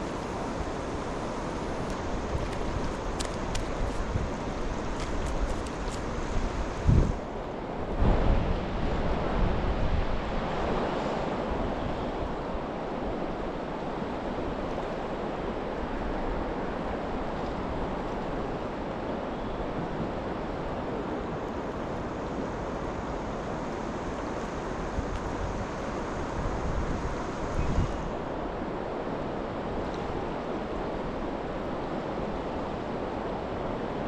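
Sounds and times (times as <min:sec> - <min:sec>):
wind buffeting microphone: 0:00.0 - 0:13.2, 0:19.7 - 0:34.0
river water rushing: 0:00.0 - 0:34.0.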